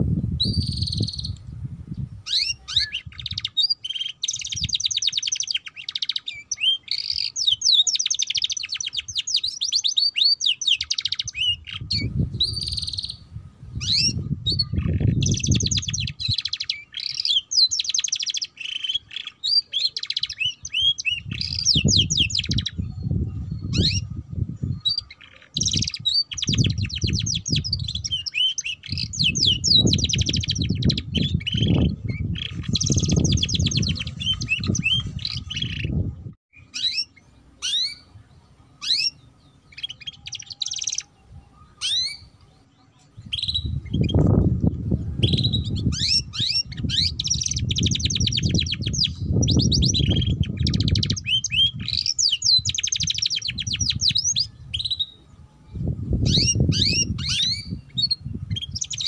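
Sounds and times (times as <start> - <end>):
canary singing trills: 0.4 - 59.0.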